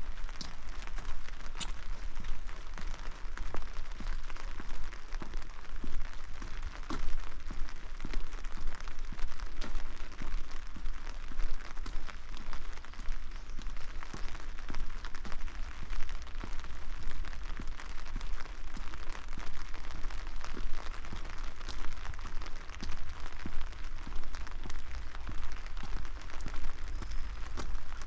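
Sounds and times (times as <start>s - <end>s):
raindrops hitting close: 0.0s - 28.0s
steady rain: 0.0s - 28.0s.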